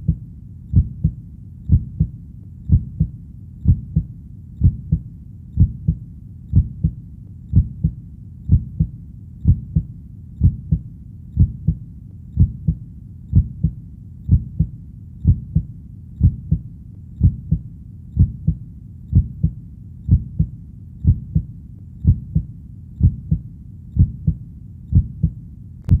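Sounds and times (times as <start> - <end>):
heartbeat double thump: 0.0 - 2.1, 2.7 - 5.0, 5.6 - 10.8, 11.4 - 11.8, 12.4 - 16.6, 17.2 - 17.6, 18.2 - 23.4, 24.0 - 26.0.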